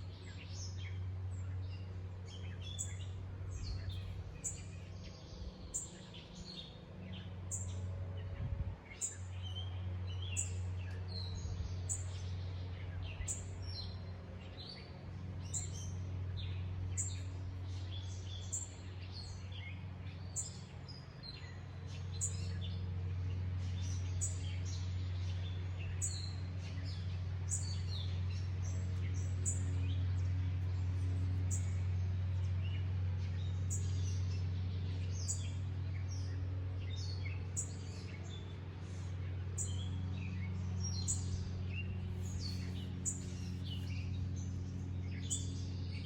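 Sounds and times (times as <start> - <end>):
small birds chirping: 0.0 - 46.0
steady low hum: 0.0 - 46.0.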